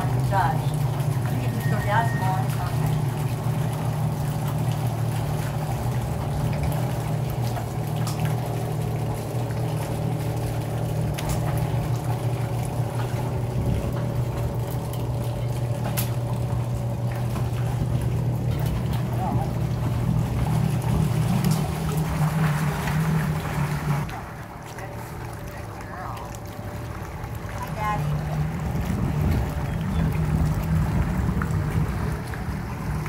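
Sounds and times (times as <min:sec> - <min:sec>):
water splashing around hull: 0:00.0 - 0:33.0
watercraft engine idling: 0:00.0 - 0:33.0.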